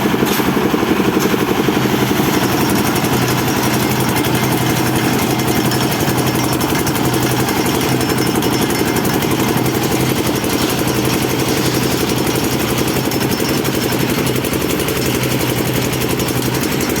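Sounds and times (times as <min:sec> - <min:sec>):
concrete mixer engine running: 0:00.0 - 0:17.0.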